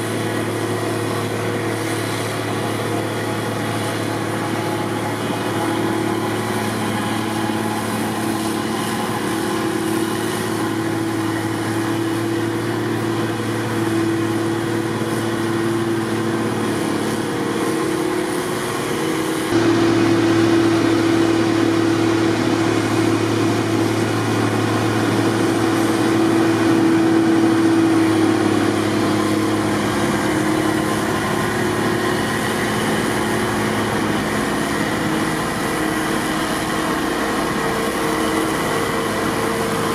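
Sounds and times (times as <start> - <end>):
diesel engines and blowers running: 0.0 - 39.9.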